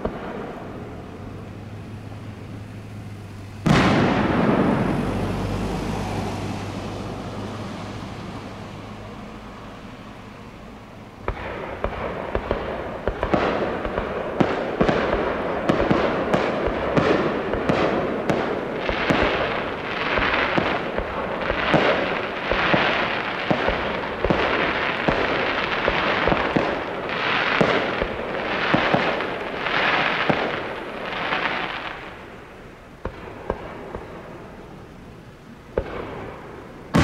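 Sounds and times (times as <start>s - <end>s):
fireworks bangs: 0.0s - 37.0s
fireworks hissing crackle: 0.0s - 37.0s.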